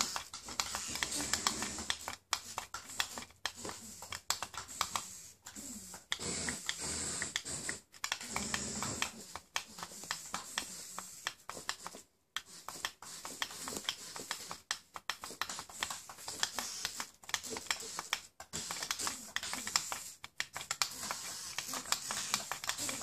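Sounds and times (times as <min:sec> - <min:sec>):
rapid irregular toy motor clicking: 0:00.0 - 0:23.0.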